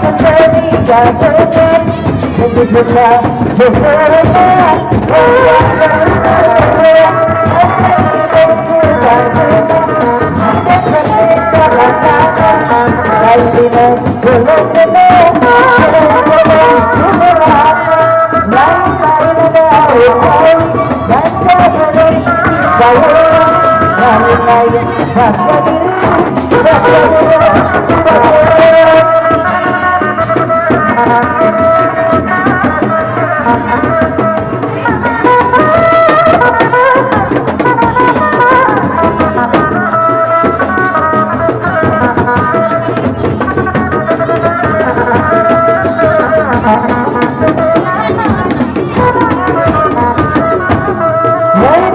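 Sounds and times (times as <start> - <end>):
folk music lead melody: 0.0 - 51.9
hand drum strokes: 0.0 - 51.9.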